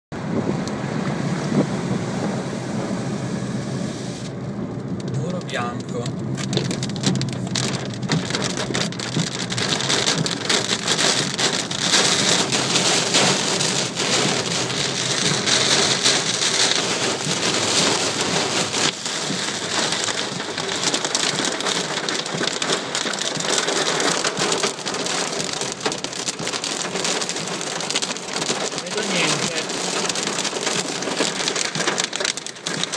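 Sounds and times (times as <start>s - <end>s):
rain and hail drumming on car roof: 4.4s - 32.9s.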